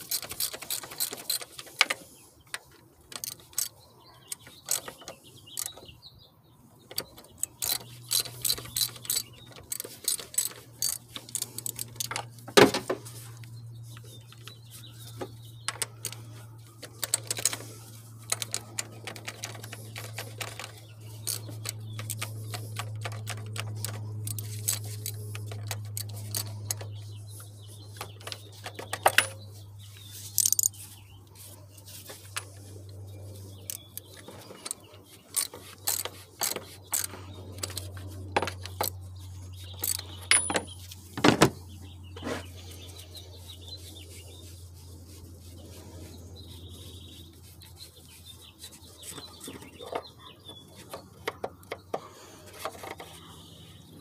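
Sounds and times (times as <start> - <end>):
metal tools clicking and rattling: 0.0 - 6.0, 6.8 - 44.4, 46.6 - 54.0
steady low hum: 6.6 - 54.0.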